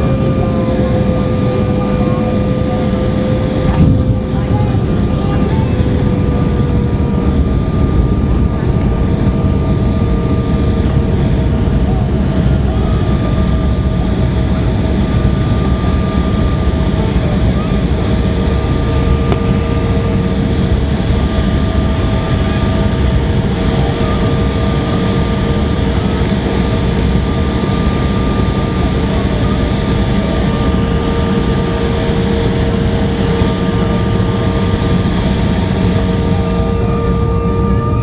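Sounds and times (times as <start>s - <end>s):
jet cabin rumble: 0.0s - 38.0s
jet engine whine: 0.0s - 38.0s.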